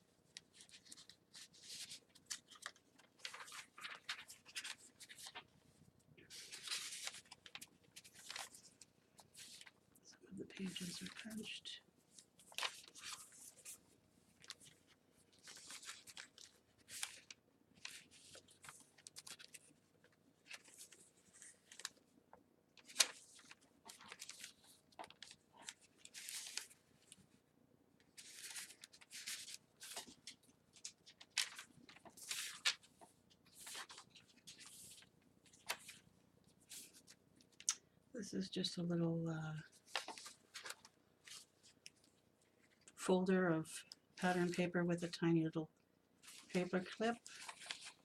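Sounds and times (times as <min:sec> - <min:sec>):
paper pages rustling: 0:00.2 - 0:09.8, 0:10.5 - 0:27.4, 0:28.0 - 0:37.8, 0:39.6 - 0:43.0, 0:46.2 - 0:48.0.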